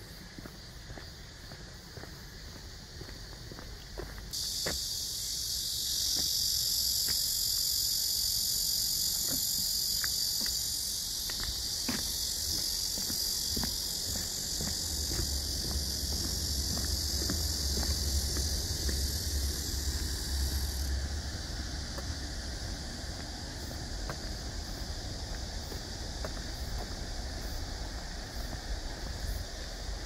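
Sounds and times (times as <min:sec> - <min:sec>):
faint footsteps: 0:00.0 - 0:04.8, 0:09.2 - 0:30.0
cicadas droning: 0:00.0 - 0:30.0.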